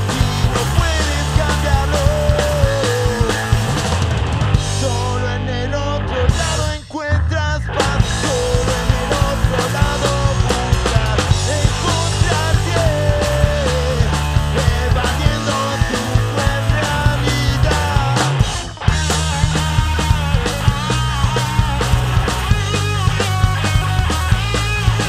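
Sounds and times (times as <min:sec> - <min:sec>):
punk rock band playing: 0:00.0 - 0:25.0.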